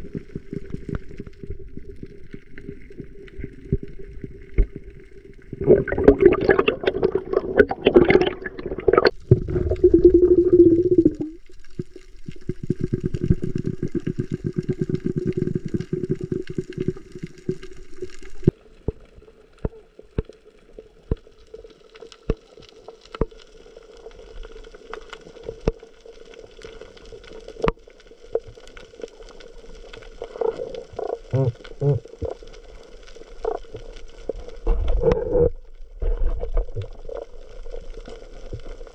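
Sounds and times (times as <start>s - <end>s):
water rushing and bubbling: 0.0s - 38.9s.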